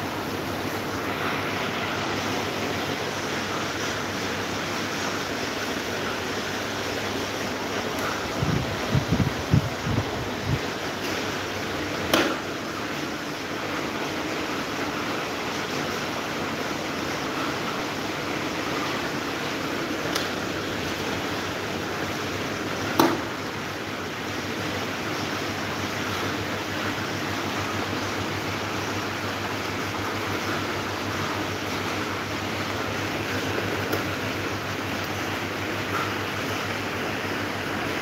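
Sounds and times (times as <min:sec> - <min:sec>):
electric fans running: 0:00.0 - 0:38.0.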